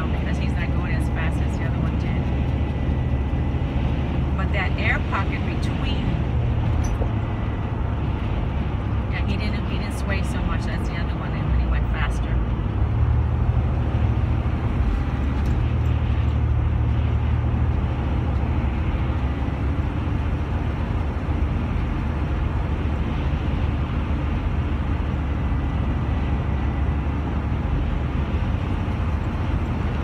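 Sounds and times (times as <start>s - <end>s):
vehicle rumble inside cabin: 0.0s - 30.0s.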